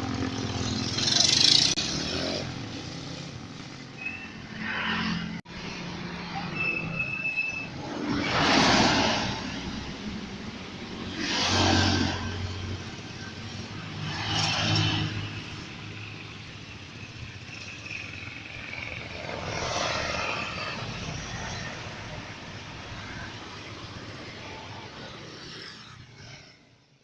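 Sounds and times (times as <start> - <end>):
vehicles passing by: 0.0 - 27.0.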